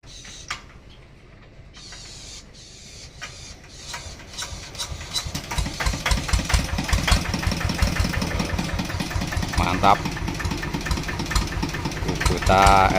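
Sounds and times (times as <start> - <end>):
diesel engine chugging: 1.1 - 12.9.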